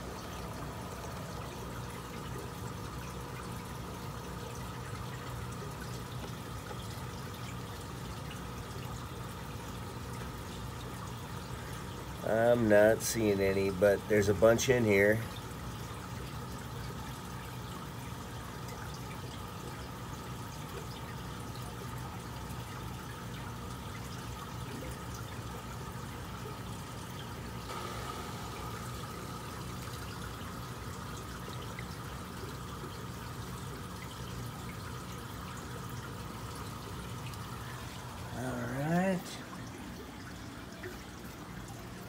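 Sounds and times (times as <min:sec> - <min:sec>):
filter low hum: 0:00.0 - 0:42.0
water trickling and bubbling: 0:00.0 - 0:42.0.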